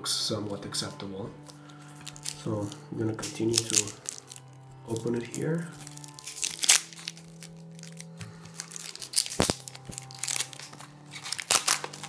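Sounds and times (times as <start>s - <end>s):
plastic film crinkling and tearing: 1.4s - 12.0s.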